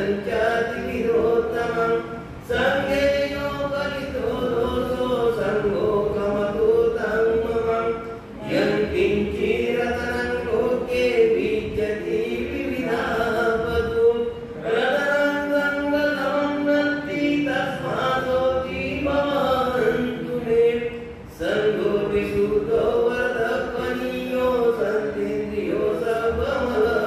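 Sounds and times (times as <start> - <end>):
man chanting into a microphone: 0.0 - 27.0.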